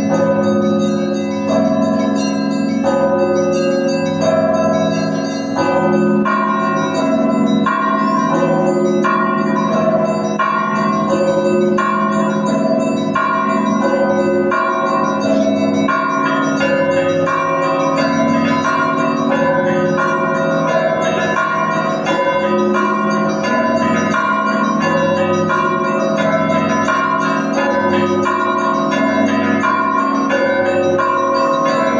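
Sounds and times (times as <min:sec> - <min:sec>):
church bells pealing: 0:00.0 - 0:31.9.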